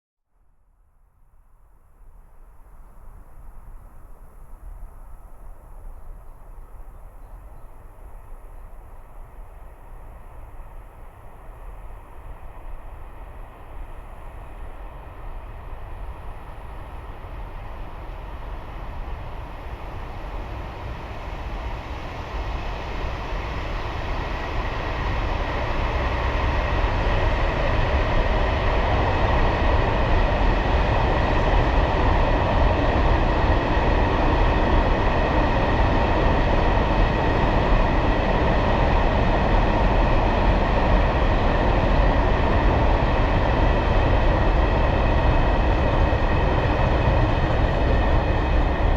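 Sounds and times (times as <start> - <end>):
freight train rumbling past: 7.7 - 48.9.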